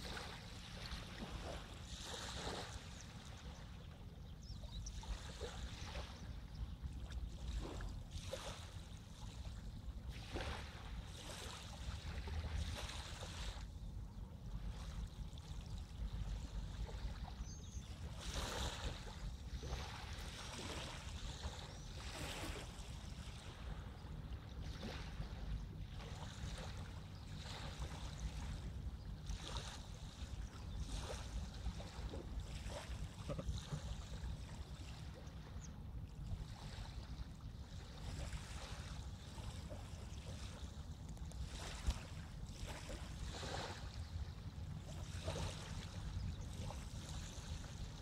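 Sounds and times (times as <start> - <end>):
river water lapping and splashing: 0.0 - 48.0.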